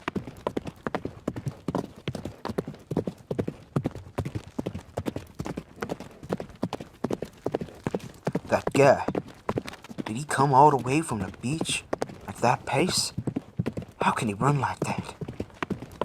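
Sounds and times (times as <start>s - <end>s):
horse hooves galloping: 0.0s - 16.0s.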